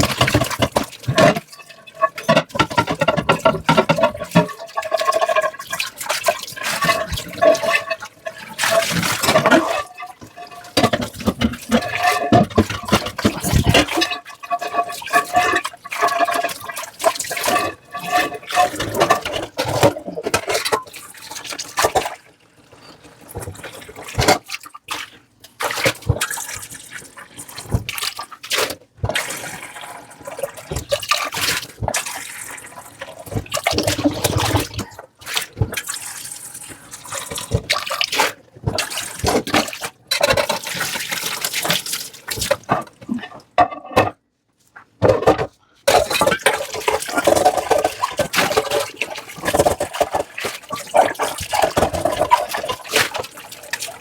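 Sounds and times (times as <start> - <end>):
tap water splashing over dishes: 0.0 - 44.2, 44.8 - 54.0.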